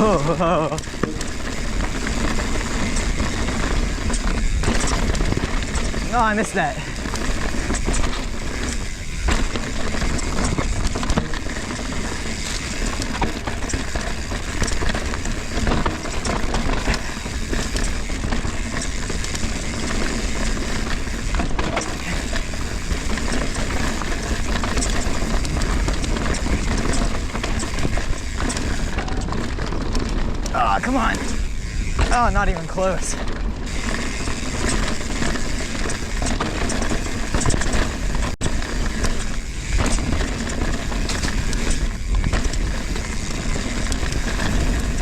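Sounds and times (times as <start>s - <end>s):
bike clicking and knocking on rocks: 0.0s - 45.0s
tyre and trail noise: 0.0s - 45.0s.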